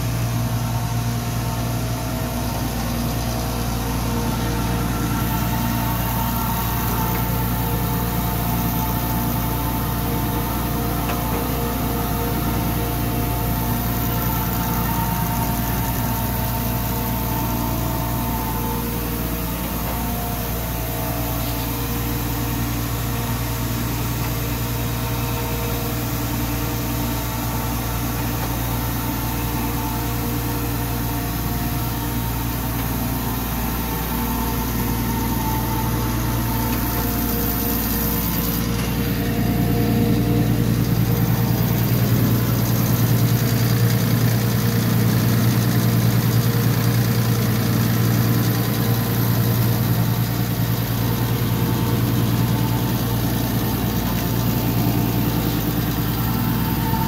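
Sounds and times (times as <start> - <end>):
surface grinder running: 0.0 - 57.0.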